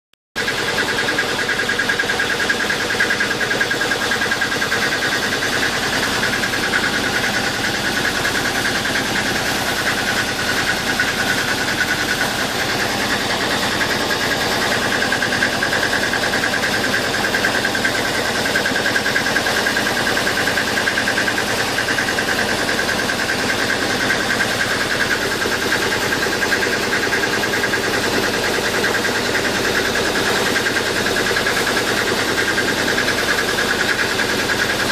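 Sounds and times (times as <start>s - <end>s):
boat engine running: 0.4s - 34.9s.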